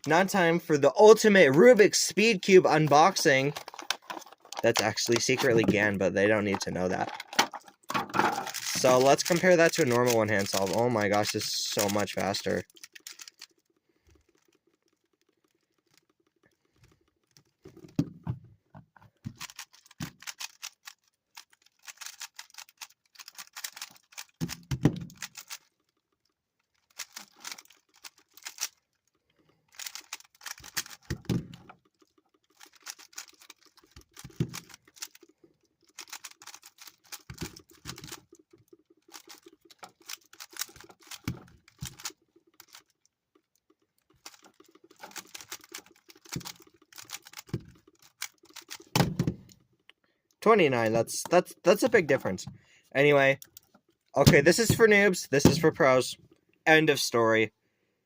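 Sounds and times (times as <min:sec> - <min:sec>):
speed cube plastic clacking: 0:00.0 - 0:56.4.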